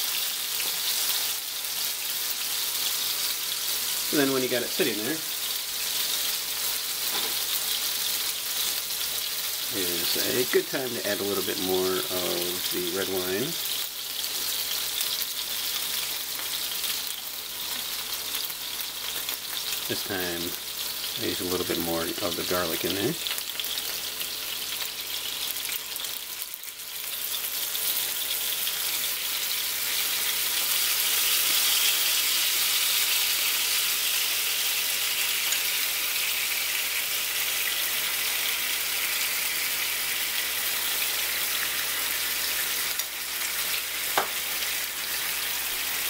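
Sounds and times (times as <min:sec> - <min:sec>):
fish sizzling in a frying pan: 0:00.0 - 0:46.0.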